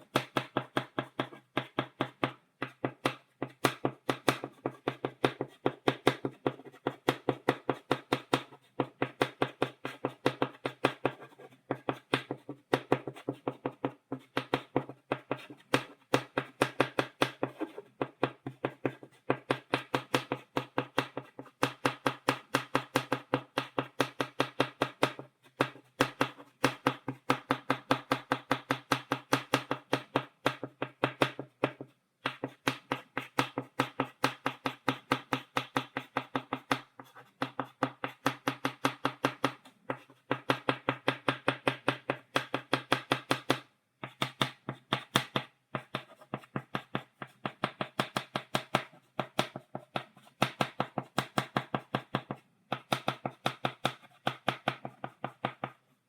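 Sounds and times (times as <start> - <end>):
chalk tapping on blackboard: 0.1 - 55.8.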